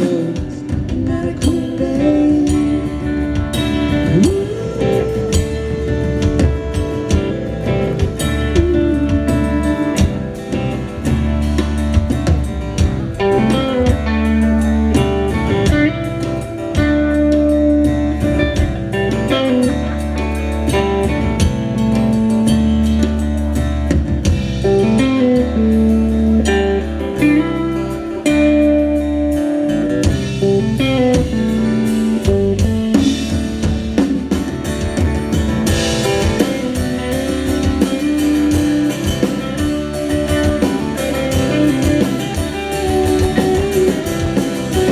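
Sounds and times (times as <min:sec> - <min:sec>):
acoustic guitar: 0:00.0 - 0:44.9
drum kit: 0:00.0 - 0:44.9
electric guitars: 0:00.0 - 0:44.9.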